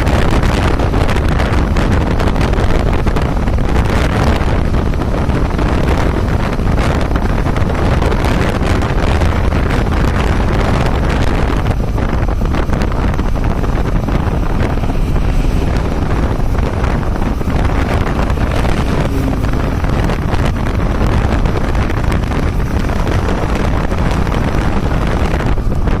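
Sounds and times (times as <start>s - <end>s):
vehicle rumble: 0.0s - 26.0s
wind buffeting microphone: 0.0s - 26.0s.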